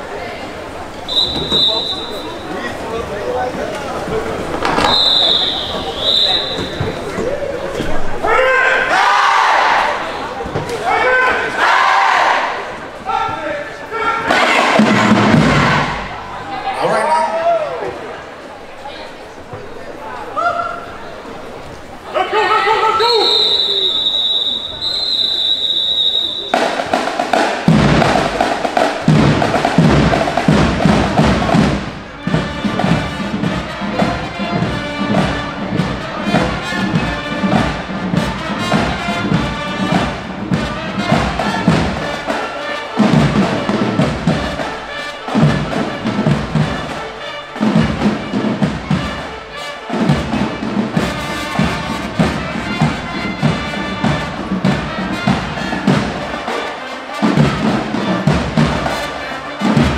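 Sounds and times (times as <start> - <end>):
marching band playing: 0.0 - 59.9.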